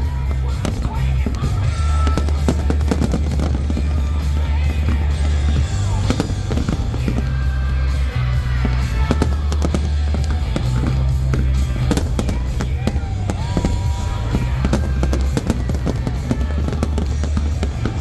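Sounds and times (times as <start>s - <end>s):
fireworks bangs and crackles: 0.0s - 18.0s
music with deep bass: 0.0s - 18.0s.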